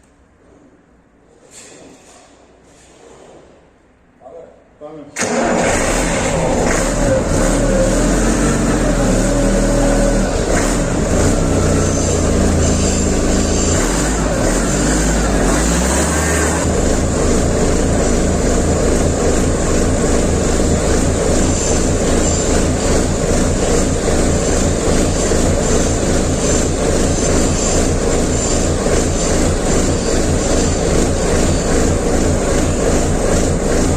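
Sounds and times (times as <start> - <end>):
truck diesel engine running: 5.2 - 33.9.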